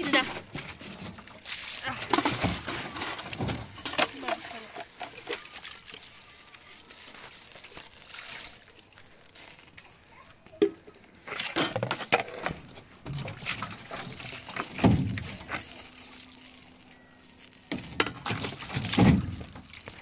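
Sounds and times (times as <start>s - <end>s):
water splashing over dishes: 0.0s - 16.8s, 17.6s - 20.0s.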